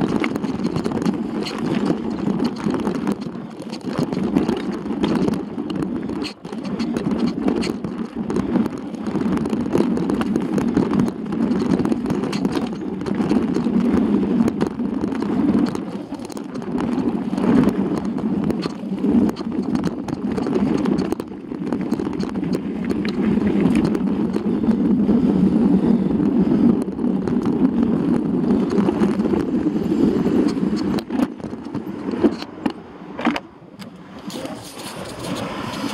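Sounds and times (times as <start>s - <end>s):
bike rattling and knocking: 0.0s - 35.9s
tyre and wind rumble: 0.0s - 35.9s.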